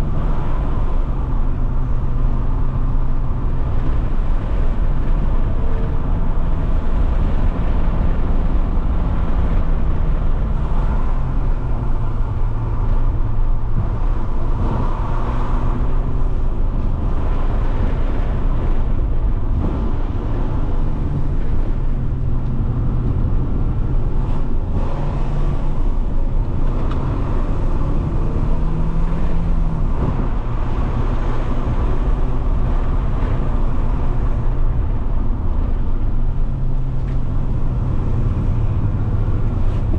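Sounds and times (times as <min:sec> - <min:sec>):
car engine while driving: 0:00.0 - 0:39.9
road noise: 0:00.0 - 0:39.9.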